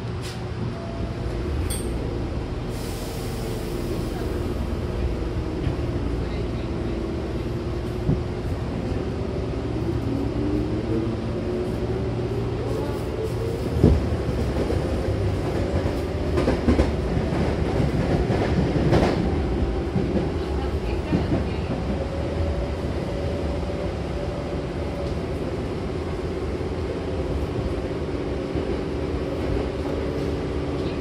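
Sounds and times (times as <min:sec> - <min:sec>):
train rumble and hum: 0:00.0 - 0:31.0.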